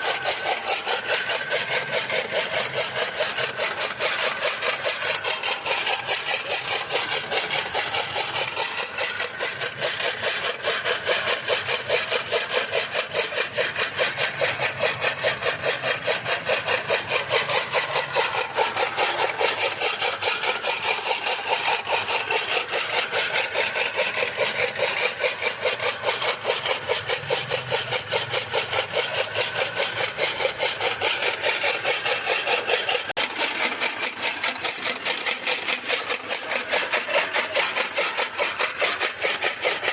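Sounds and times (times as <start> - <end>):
chaff cutter chopping fodder: 0.0 - 39.9.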